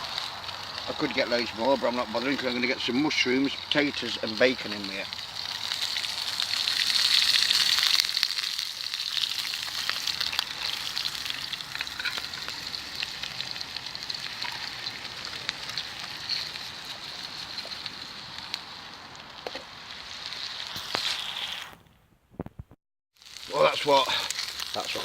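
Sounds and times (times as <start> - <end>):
meat sizzling in a pan: 0.0 - 21.7, 23.2 - 25.0.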